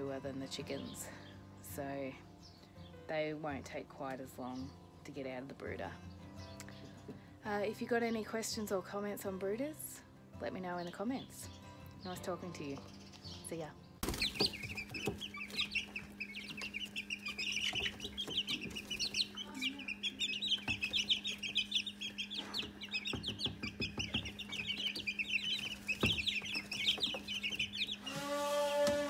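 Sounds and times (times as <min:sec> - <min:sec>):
chicks peeping: 0:00.5 - 0:08.5, 0:10.6 - 0:29.0.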